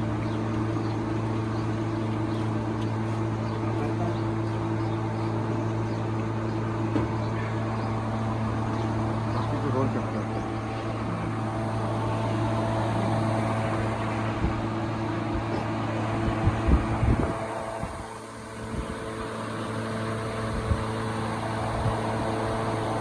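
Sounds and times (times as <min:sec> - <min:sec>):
machine humming: 0:00.0 - 0:23.0.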